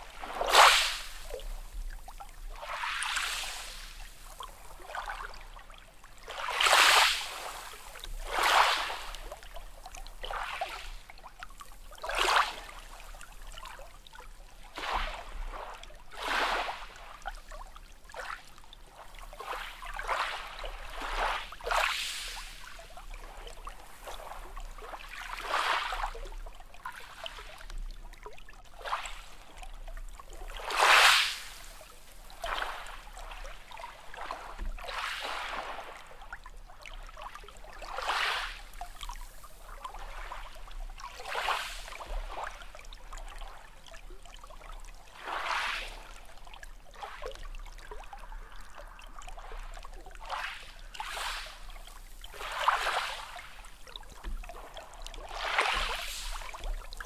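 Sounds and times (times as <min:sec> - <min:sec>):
small sea waves lapping: 0:00.0 - 0:57.0.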